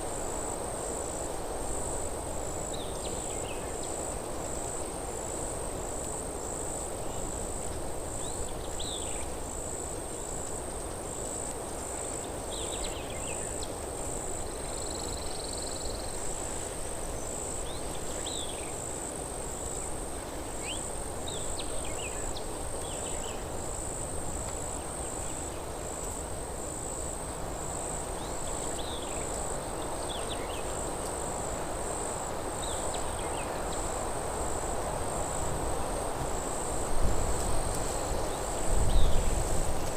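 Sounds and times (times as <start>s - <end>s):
wind through trees: 0.0s - 39.9s.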